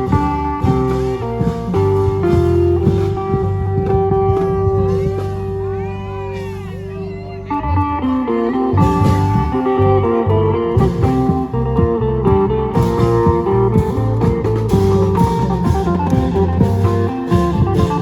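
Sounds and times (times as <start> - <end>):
long drums beating: 0.0 - 6.0, 8.8 - 18.0
plucked string melody: 0.0 - 18.0
steady bass: 0.0 - 18.0.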